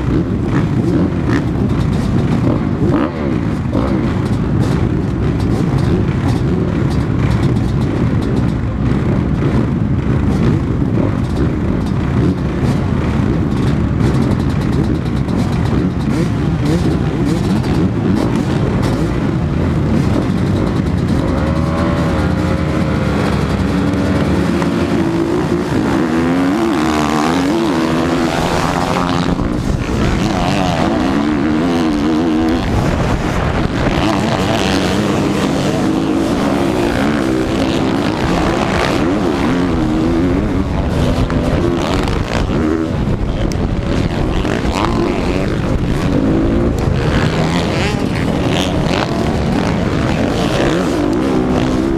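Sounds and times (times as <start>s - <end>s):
dirt bike engines racing: 0.0s - 51.9s.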